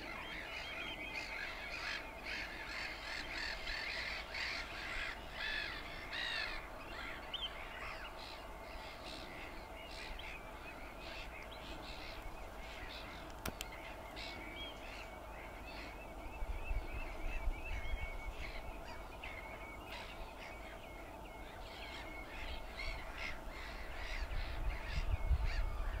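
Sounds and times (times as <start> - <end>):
wetland birds calling: 0.0 - 26.0
wind rumbling on microphone: 3.1 - 26.0.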